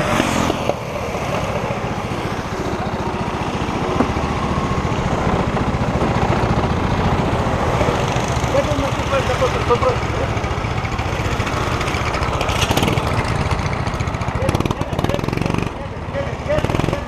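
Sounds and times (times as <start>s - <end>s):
go-kart engines idling: 0.0s - 17.0s.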